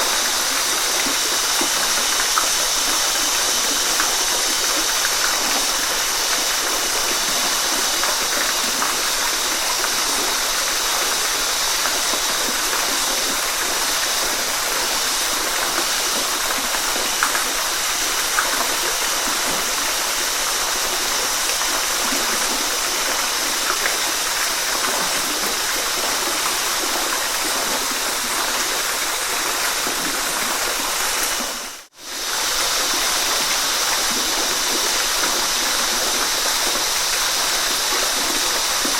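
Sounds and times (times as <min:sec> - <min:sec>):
waterfall water rushing: 0:00.0 - 0:38.9.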